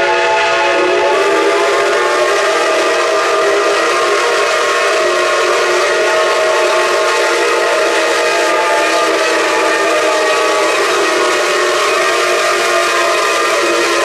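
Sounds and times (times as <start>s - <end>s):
steam whistles blowing together: 0.0s - 14.0s.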